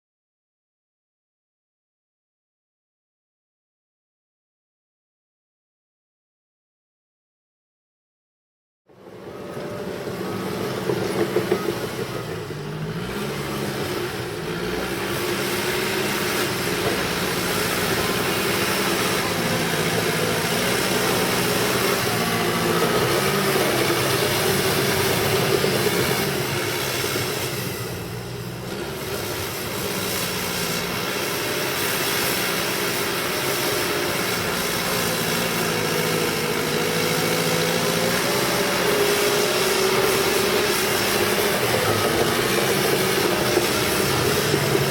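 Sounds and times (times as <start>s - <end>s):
bulldozer diesel engine under load: 8.9s - 44.9s.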